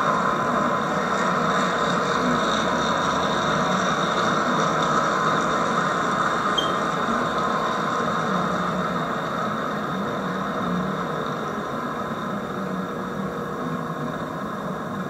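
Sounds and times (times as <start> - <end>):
model train wheels on track: 0.0 - 15.0.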